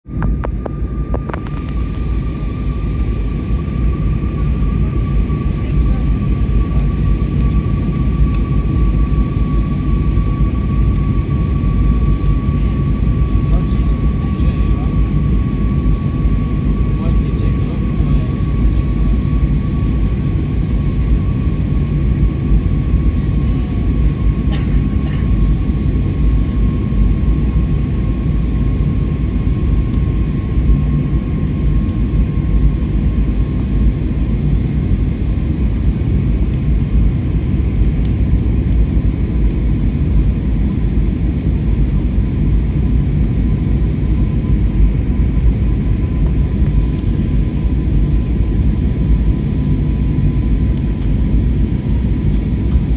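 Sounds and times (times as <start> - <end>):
airliner cabin roar: 0.1 - 52.9
faint steady whine: 0.1 - 52.9.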